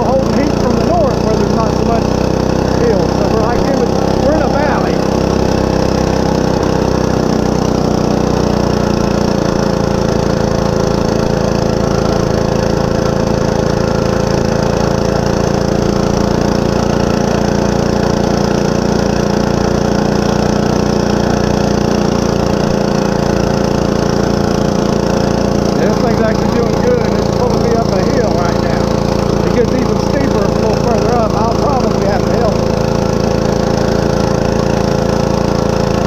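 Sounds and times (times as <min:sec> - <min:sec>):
small four-stroke engine running: 0:00.0 - 0:36.0.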